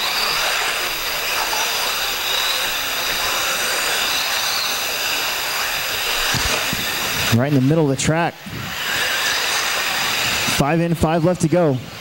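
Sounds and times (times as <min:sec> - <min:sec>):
electric rc buggy motors whining: 0:00.0 - 0:12.0.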